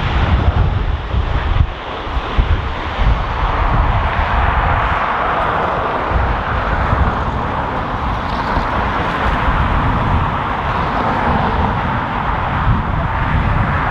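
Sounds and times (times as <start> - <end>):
jet engine noise: 0.0 - 13.9
wind buffeting microphone: 0.0 - 13.9.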